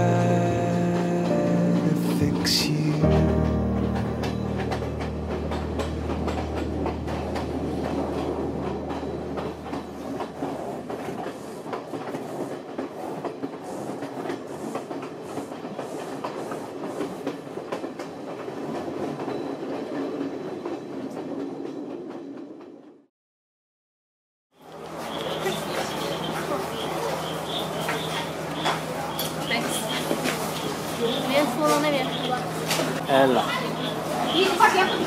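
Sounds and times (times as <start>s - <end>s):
train rumble: 0.0s - 23.1s, 24.6s - 35.0s
train wheels clickety-clack: 0.1s - 23.0s, 24.7s - 35.0s.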